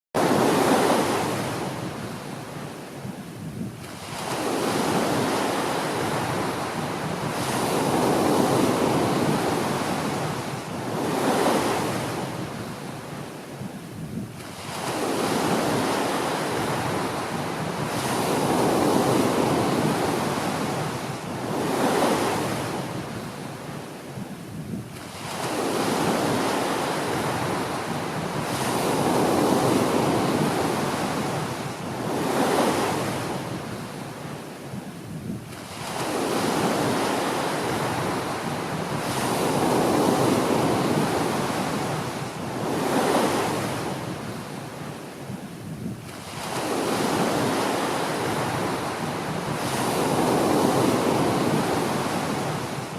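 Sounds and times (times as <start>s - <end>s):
small waves breaking on beach: 0.2s - 52.9s.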